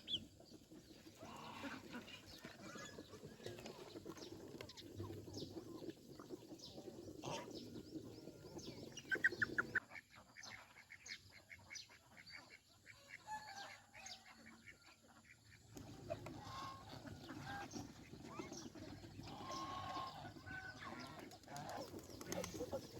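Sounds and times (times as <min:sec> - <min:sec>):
poultry clucking and calling: 0:00.0 - 0:22.9.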